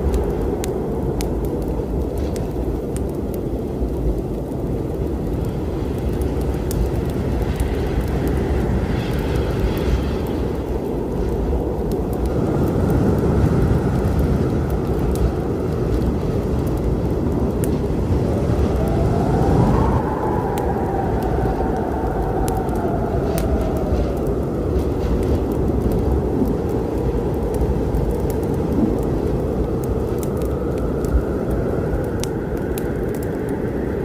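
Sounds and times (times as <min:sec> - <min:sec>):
low rumble of storm: 0:00.0 - 0:34.0
wood fire crackling: 0:00.0 - 0:34.0.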